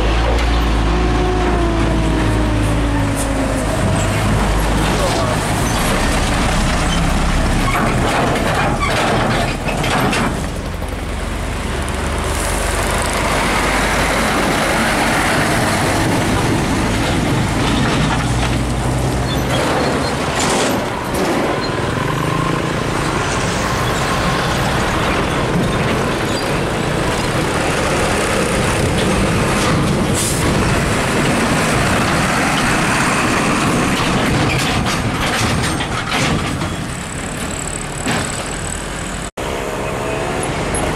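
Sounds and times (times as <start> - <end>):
heavy trucks passing: 0.0 - 40.9.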